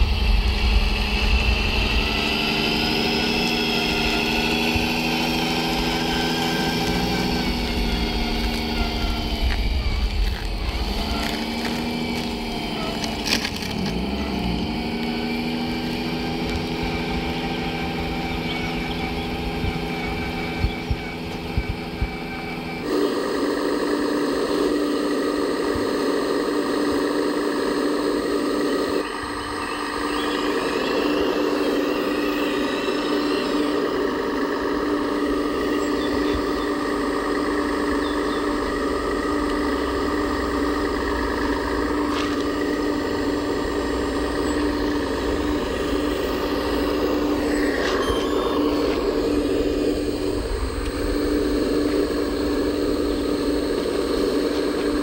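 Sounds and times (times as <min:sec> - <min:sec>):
model excavator engine sound: 0:00.0 - 0:55.0
model truck diesel engine sound: 0:00.0 - 0:55.0.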